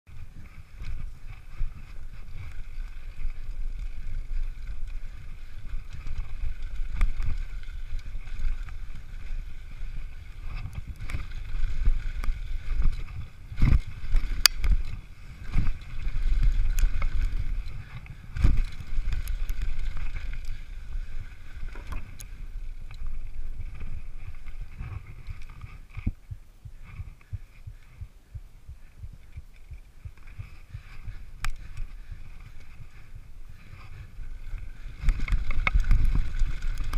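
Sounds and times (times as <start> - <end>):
wind rushing over microphone: 0.1 - 36.9.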